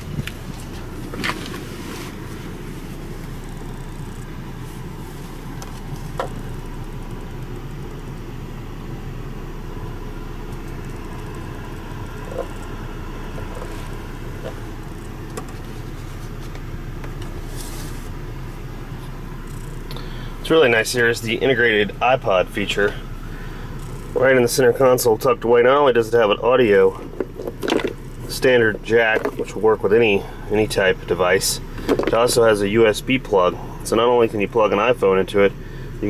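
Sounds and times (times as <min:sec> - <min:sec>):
car cabin low rumble: 0:00.0 - 0:36.0.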